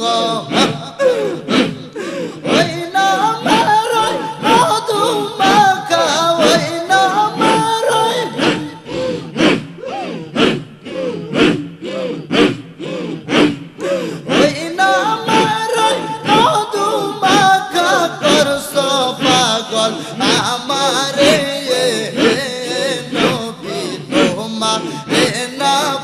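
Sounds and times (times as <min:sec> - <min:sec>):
men singing devotional song: 0:00.0 - 0:26.0.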